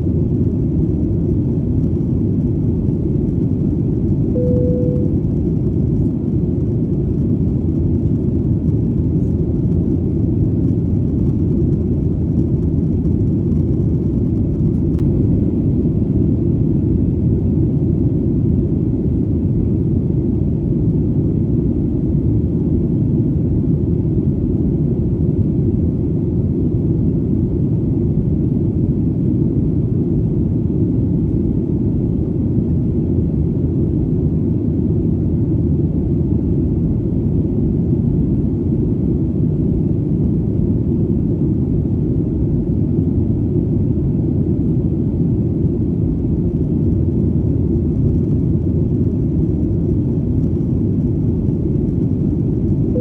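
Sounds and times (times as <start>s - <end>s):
airplane rumble in flight: 0.0s - 53.0s.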